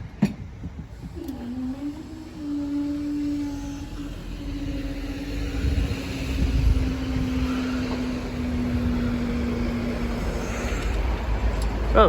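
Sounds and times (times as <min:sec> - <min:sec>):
electric train humming whine: 0:00.0 - 0:12.0
wheels rumbling on rail: 0:00.0 - 0:12.0.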